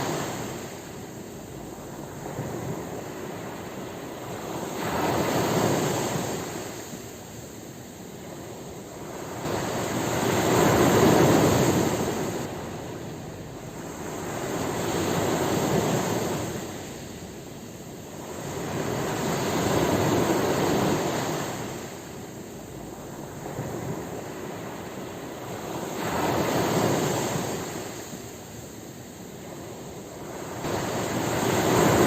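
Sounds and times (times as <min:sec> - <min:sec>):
ocean waves breaking on shore: 0:00.0 - 0:32.0.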